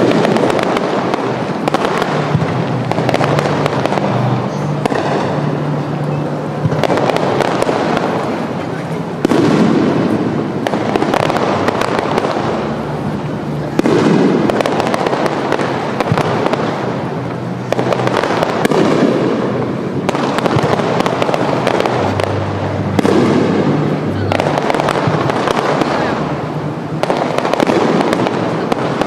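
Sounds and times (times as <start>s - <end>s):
fireworks crackling and booming: 0.0s - 29.0s.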